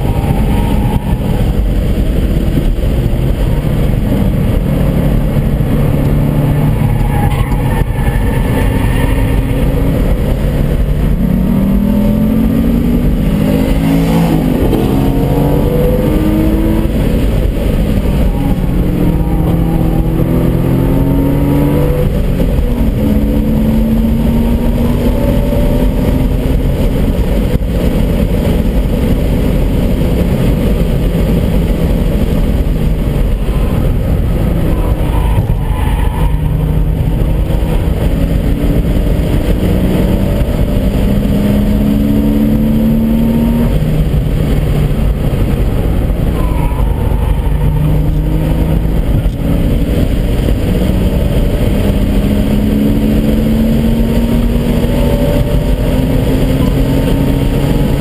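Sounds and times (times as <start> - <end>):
car engine at full throttle: 0.0 - 58.0
wind and tyre rumble: 0.0 - 58.0.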